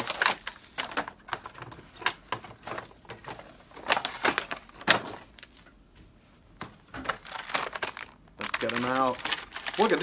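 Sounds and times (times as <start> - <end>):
plastic packaging crinkling: 0.0 - 5.6, 7.1 - 10.0.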